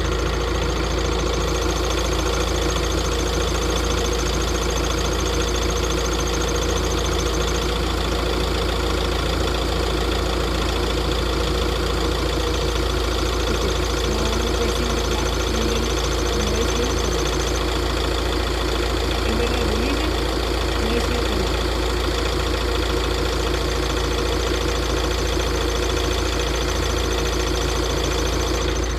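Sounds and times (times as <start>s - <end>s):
diesel engine idling with knock: 0.0s - 28.9s.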